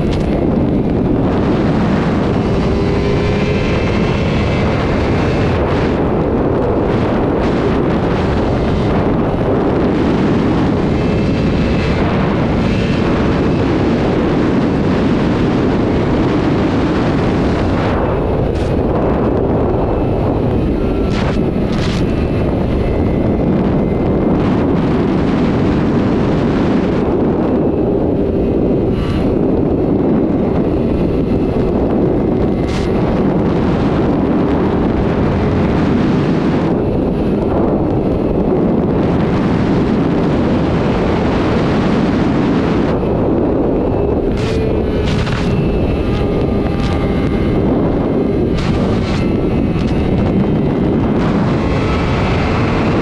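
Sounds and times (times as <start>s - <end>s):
motorcycle engine at speed: 0.0s - 53.0s
wind noise on microphone: 0.0s - 53.0s.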